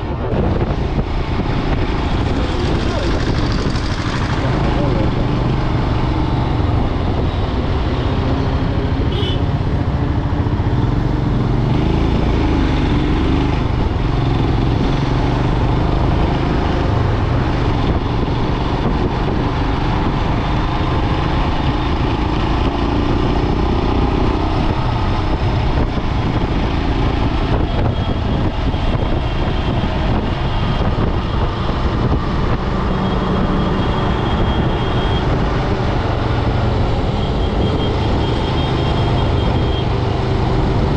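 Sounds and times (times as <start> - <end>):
road noise: 0.0 - 40.9
wind noise: 0.0 - 40.9.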